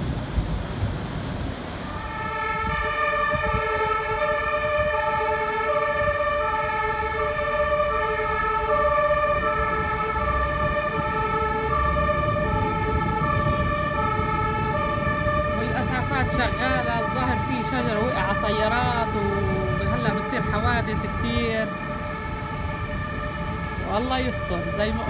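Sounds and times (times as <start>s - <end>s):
two-tone emergency siren: 1.8s - 25.0s.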